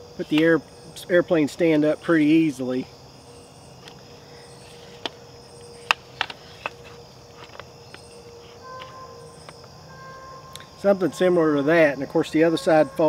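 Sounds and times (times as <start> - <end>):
high-pitched insect chirping: 0.0 - 13.0.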